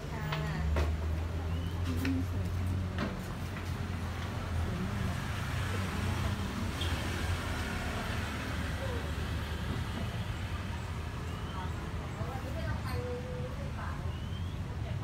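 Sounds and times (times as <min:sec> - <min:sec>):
faint indistinct voices: 0:00.0 - 0:15.0
road traffic rumble: 0:00.0 - 0:15.0.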